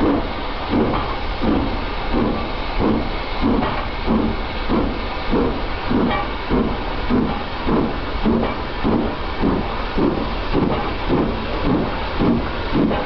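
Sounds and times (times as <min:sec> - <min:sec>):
steam hiss: 0:00.0 - 0:13.0
steam locomotive exhaust beats: 0:00.0 - 0:13.0.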